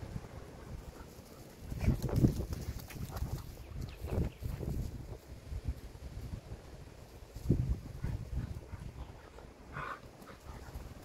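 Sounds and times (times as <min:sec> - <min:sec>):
wind rumbling on microphone: 0:00.0 - 0:11.0
dogs play-wrestling on dirt: 0:00.2 - 0:05.3, 0:07.2 - 0:11.0.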